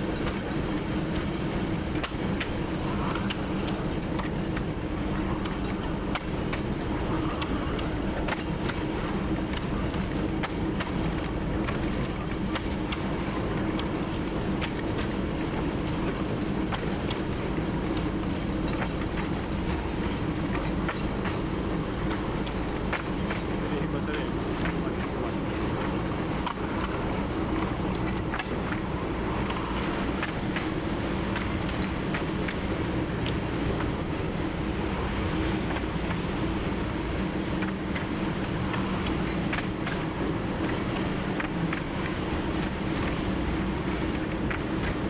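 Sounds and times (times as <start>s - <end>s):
diesel locomotive engine drone: 0.0s - 45.0s
wheels clicking on track: 0.0s - 45.0s.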